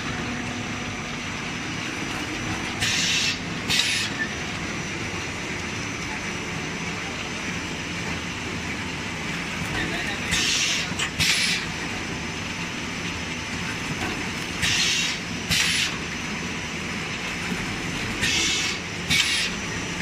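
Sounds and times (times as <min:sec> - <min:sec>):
packing machine hum: 0:00.0 - 0:20.0.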